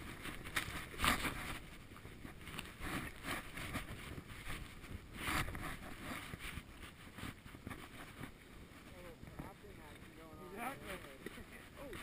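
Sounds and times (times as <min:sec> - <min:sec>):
muffled rustling on microphone: 0:00.0 - 0:12.0.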